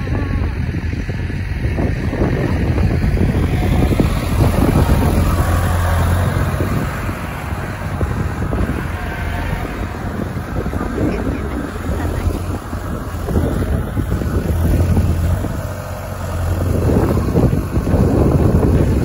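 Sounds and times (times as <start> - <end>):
tractor diesel engine running: 0.0 - 19.0
wind buffeting microphone: 0.0 - 19.0.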